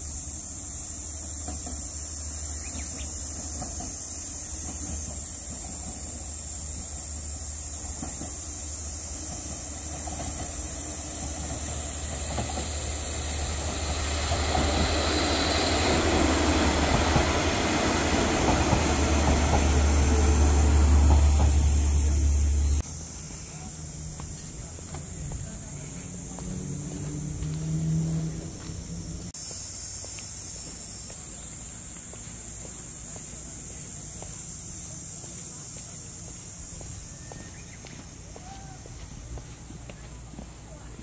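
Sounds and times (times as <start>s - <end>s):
diesel train crossing bridge: 0.0s - 41.0s.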